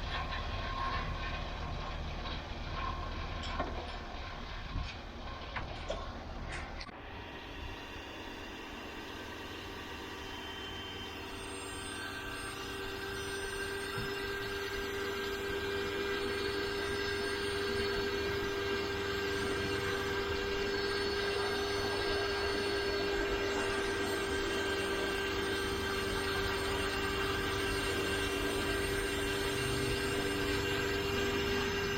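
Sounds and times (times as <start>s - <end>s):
pressure washer motor whine: 5.9s - 31.9s.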